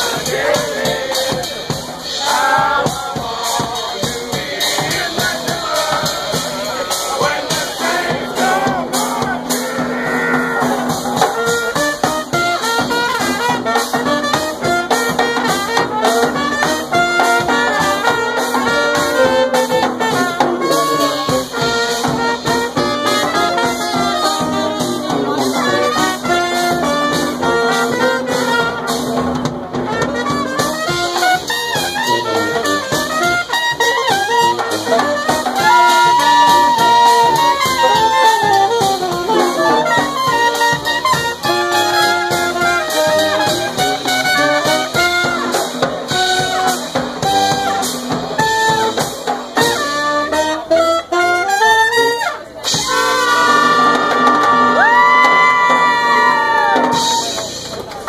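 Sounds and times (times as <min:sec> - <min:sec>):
sousaphone bass line: 0:00.0 - 0:51.1
drum beat: 0:00.0 - 0:51.5, 0:52.6 - 0:58.0
saxophone: 0:00.0 - 0:57.6
trumpets: 0:00.0 - 0:57.8
brass band playing jazz: 0:00.0 - 0:58.0.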